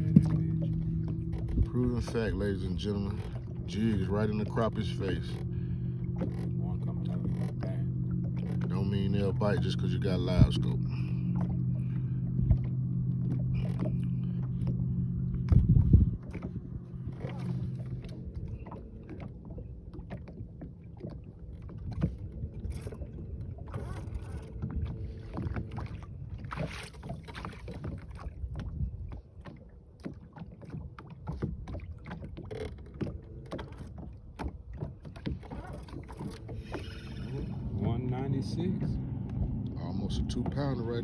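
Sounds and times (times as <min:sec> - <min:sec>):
steady low rumble: 0:00.0 - 0:29.3, 0:34.1 - 0:41.0.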